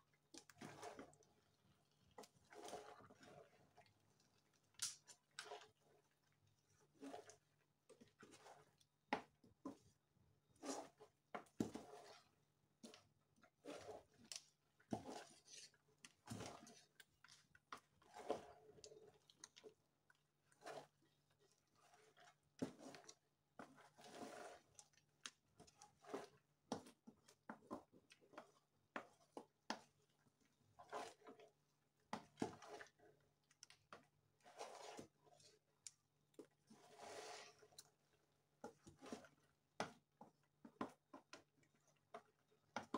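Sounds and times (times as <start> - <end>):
soup squelching while stirred: 0.1 - 42.9
spatula knocking and scraping pot: 6.8 - 19.5, 20.4 - 42.9.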